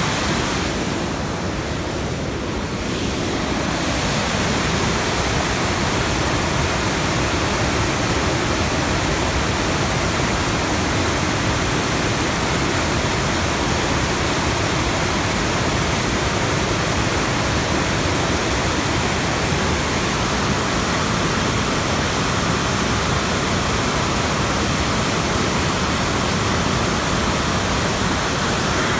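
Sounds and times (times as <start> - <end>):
river water rushing: 0.0 - 28.9.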